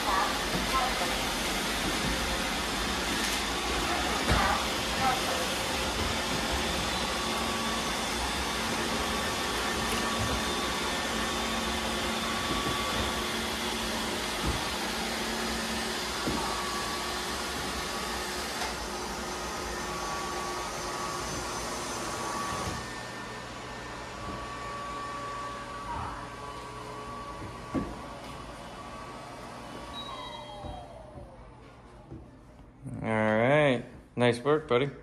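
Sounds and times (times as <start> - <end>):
robot vacuums whirring: 0.0 - 32.1.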